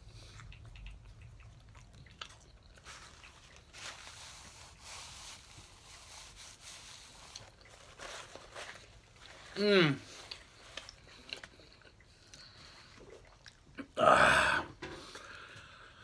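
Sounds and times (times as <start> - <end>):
person chewing food: 0.0 - 5.6, 7.0 - 15.9.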